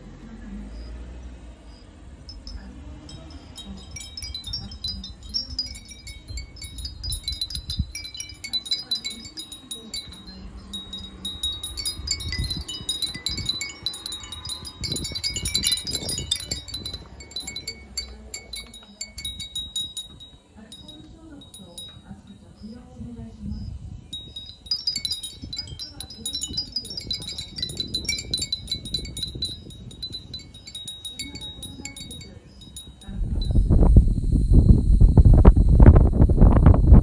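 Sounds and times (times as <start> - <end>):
ceramic wind chimes tinkling: 1.7 - 23.3, 24.0 - 37.0.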